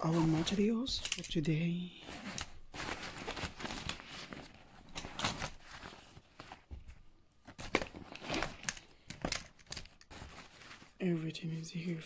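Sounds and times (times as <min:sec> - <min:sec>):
backpack fabric rustling: 0:00.0 - 0:01.2, 0:02.0 - 0:11.0.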